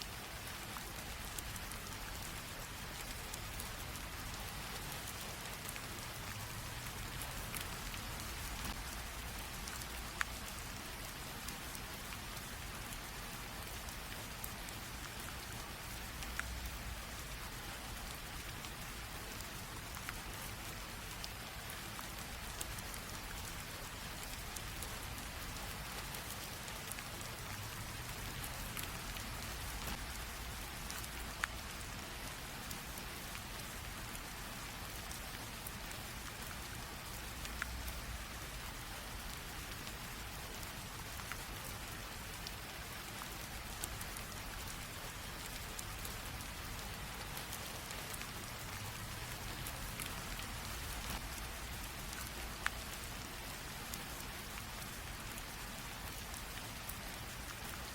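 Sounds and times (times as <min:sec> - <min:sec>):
light rain hiss: 0:00.0 - 0:57.9
raindrops ticking: 0:00.2 - 0:57.9.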